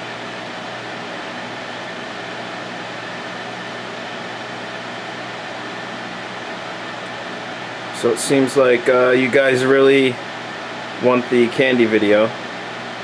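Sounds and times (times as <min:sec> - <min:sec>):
fan whirring hiss: 0:00.0 - 0:13.0.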